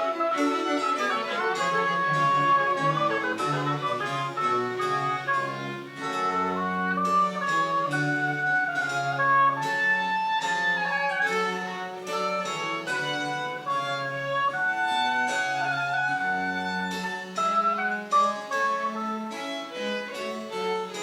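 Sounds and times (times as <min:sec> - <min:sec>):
baroque chamber ensemble playing: 0:00.0 - 0:21.0.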